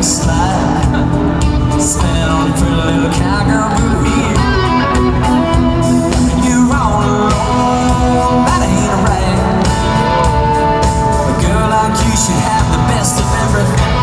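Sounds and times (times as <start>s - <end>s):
bending lead guitar line: 0.0s - 14.0s
country-rock band playing loudly: 0.0s - 14.0s.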